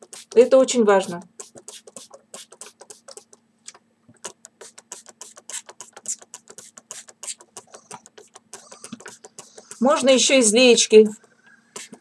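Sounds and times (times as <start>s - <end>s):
spray bottle hissing mist: 0.0s - 3.4s, 4.2s - 10.2s, 11.1s - 12.0s.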